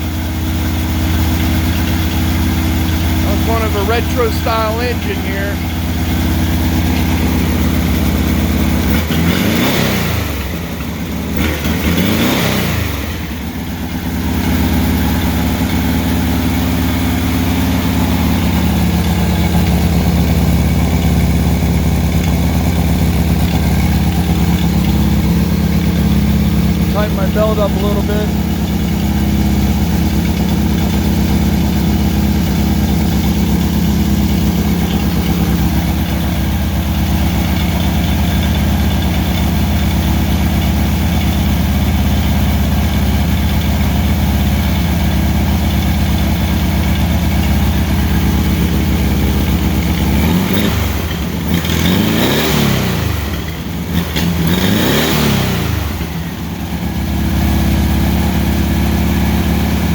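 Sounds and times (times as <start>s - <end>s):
car engine idling: 0.0s - 59.9s
engine revving: 0.0s - 59.9s.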